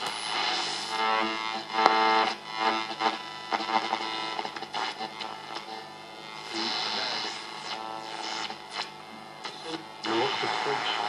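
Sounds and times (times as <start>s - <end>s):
radio hiss and crackle: 0.0s - 11.0s.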